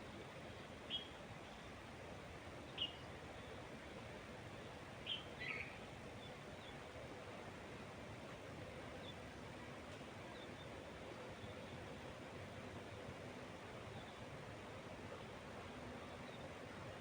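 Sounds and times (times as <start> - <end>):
wind through trees: 0.0 - 17.0.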